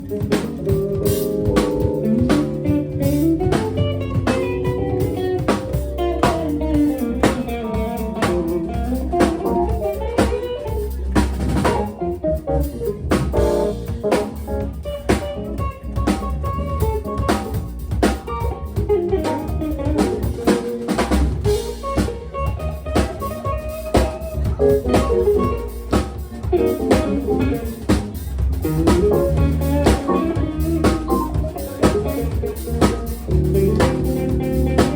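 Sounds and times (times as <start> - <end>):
band playing instrumental groove: 0.0 - 34.9.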